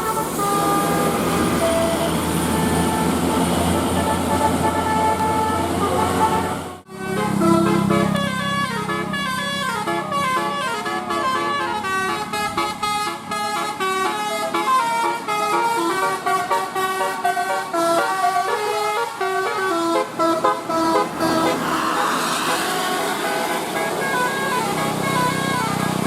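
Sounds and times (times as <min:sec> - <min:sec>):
musical bus horn playing tune: 0:00.0 - 0:26.0.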